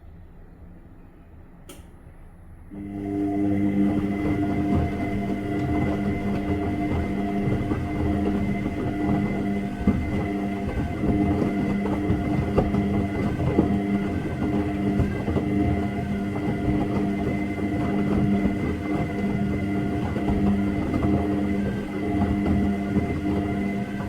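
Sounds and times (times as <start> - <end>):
washing machine running: 1.7 - 24.0.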